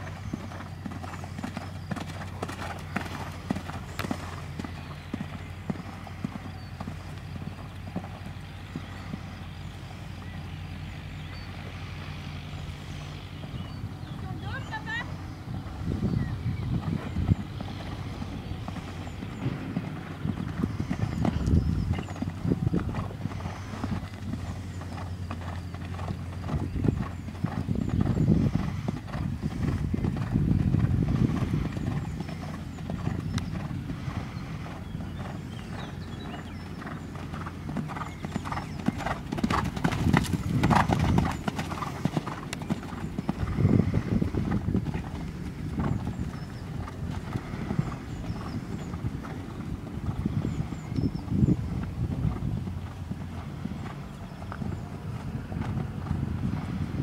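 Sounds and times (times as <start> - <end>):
horse hoofbeats on sand: 0.0 - 57.0.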